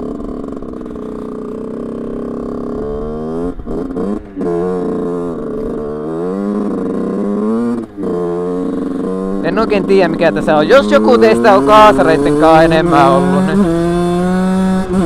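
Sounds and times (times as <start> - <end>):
moped engine revving: 0.0 - 15.0.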